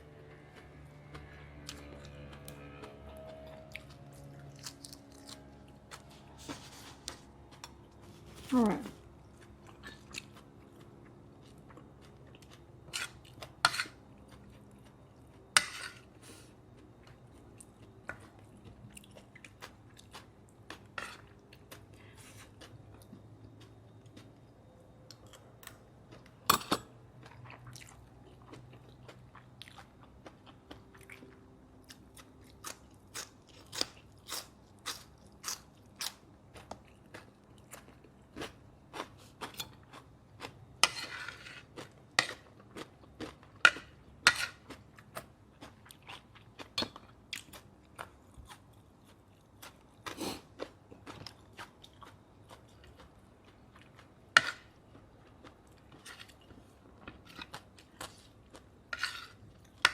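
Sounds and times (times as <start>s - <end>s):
person chewing crunchy food: 0.2s - 59.9s.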